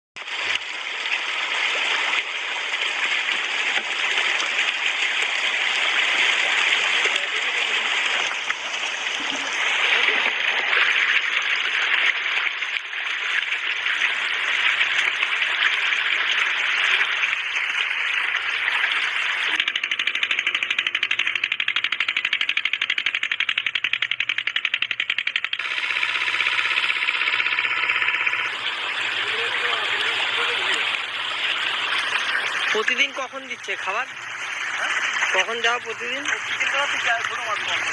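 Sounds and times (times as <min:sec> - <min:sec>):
fish splashing in shallow water: 0:00.2 - 0:37.9
stationary engine running: 0:00.2 - 0:37.9.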